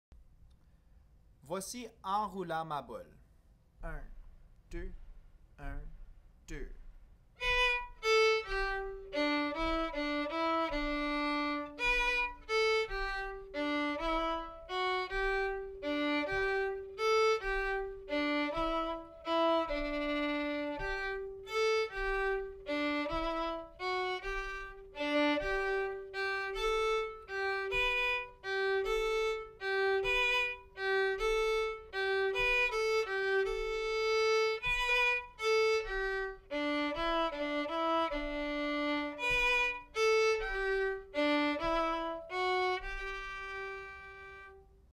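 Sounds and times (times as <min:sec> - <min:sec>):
solo violin folk tune: 0:07.4 - 0:44.9.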